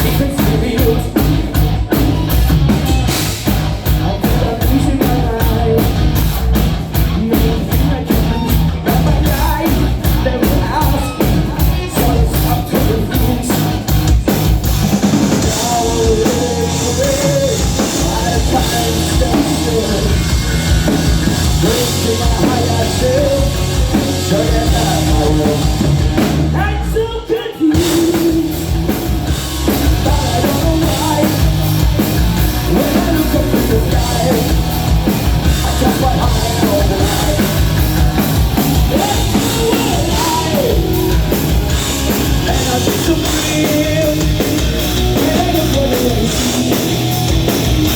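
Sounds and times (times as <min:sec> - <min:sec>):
person singing: 0:00.0 - 0:03.1, 0:03.9 - 0:06.2, 0:07.0 - 0:14.0, 0:15.4 - 0:20.5, 0:21.4 - 0:28.8, 0:29.6 - 0:34.8, 0:35.4 - 0:47.1
drum kit: 0:00.0 - 0:47.9
loud rock music: 0:00.0 - 0:47.9.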